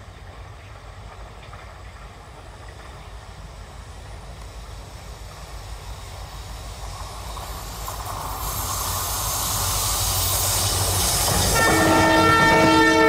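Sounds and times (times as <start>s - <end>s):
locomotive engine rumble: 0.0s - 13.0s
wheels hissing on rail: 0.0s - 13.0s.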